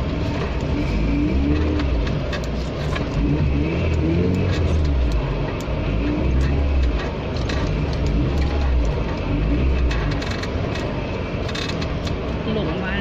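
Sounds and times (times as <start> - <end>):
vehicle knocks and rattles: 0.0 - 3.5, 4.3 - 12.8
vehicle engine revving: 0.0 - 12.6.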